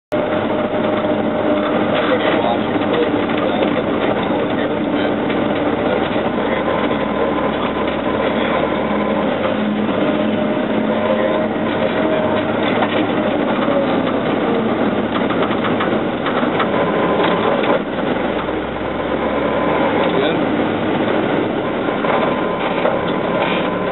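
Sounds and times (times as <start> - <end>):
rattles and clicks of vehicle body: 0.1 - 23.9
vehicle engine drone: 0.1 - 23.9.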